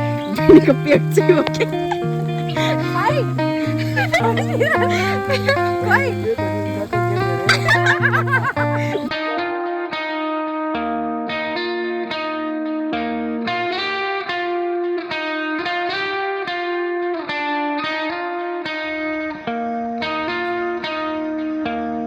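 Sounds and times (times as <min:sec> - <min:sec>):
guitar plucking a melody: 0:00.0 - 0:22.0.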